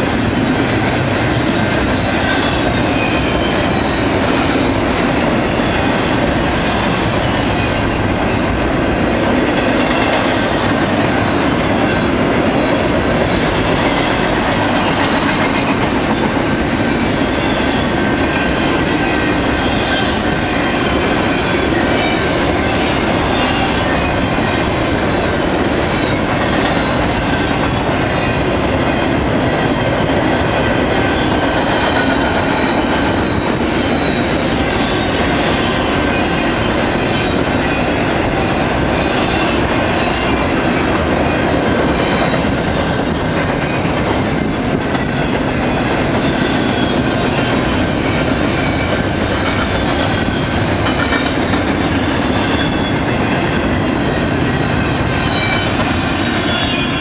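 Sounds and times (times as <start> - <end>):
train wheels on rails: 0.0 - 57.0.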